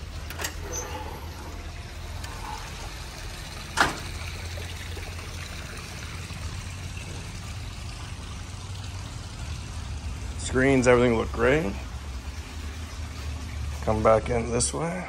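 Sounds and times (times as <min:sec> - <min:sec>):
low steady rumble: 0:00.0 - 0:15.0
water trickling and splashing: 0:00.0 - 0:15.0.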